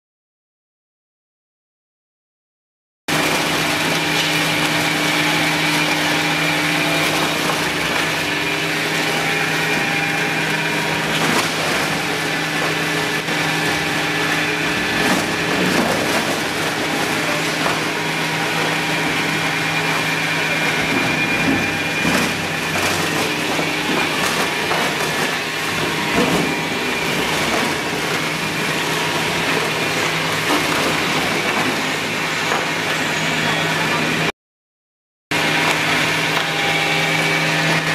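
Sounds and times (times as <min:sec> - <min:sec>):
crusher rumble: 0:03.1 - 0:34.3
electric motor hum with whine: 0:03.1 - 0:34.3, 0:35.3 - 0:37.9.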